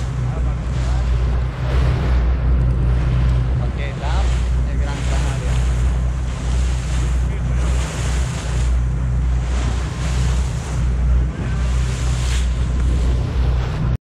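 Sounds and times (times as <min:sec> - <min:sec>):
boat engine humming: 0:00.0 - 0:14.0
rushing sea water: 0:00.0 - 0:14.0
wind buffeting microphone: 0:00.0 - 0:14.0.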